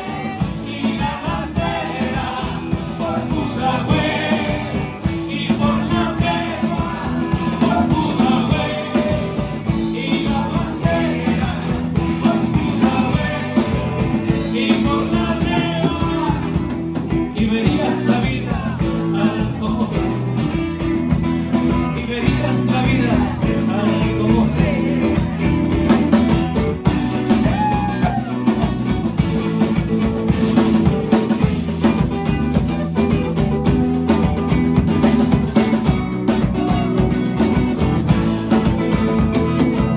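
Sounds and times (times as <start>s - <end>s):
man singing: 0.0s - 33.2s
drum kit: 0.0s - 39.9s
electric bass: 0.0s - 39.9s
strummed acoustic guitar: 0.0s - 39.9s.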